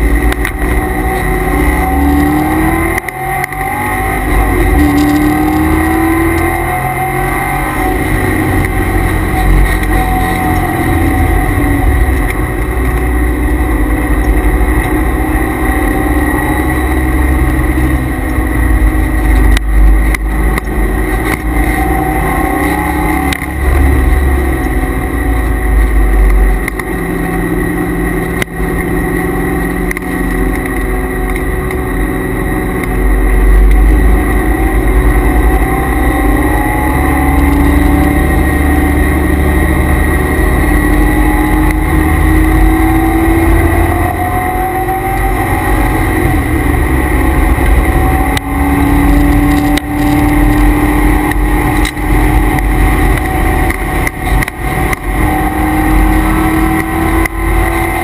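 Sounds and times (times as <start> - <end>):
car engine revving: 0.0 - 58.0
steady high whine: 0.0 - 58.0.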